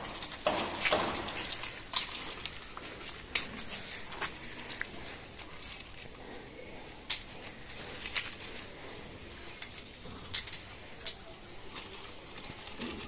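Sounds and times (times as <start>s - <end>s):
quiet outdoor background: 0.0s - 13.0s.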